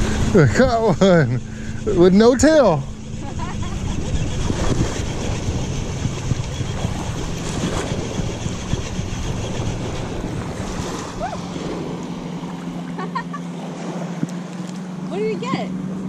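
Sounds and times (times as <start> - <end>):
wind buffeting microphone: 0.0 - 13.0
motorboat engine drone: 0.0 - 16.0.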